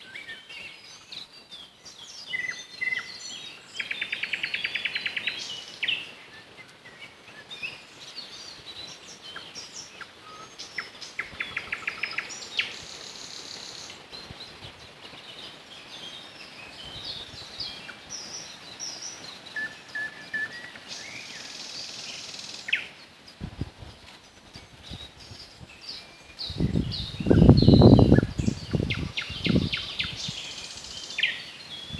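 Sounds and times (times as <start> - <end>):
nightingales singing: 0.0 - 23.4, 24.2 - 31.9
small birds chirping: 0.0 - 31.9.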